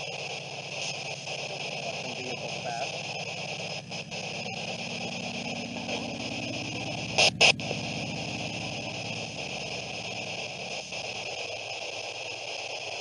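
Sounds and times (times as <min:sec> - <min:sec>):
low buzz: 0:00.0 - 0:13.0
static hiss: 0:00.0 - 0:13.0.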